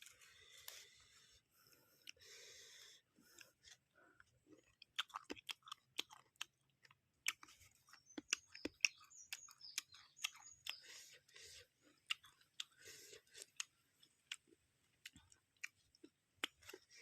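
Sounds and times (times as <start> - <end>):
chewing with mouth clicks: 3.2 - 17.0.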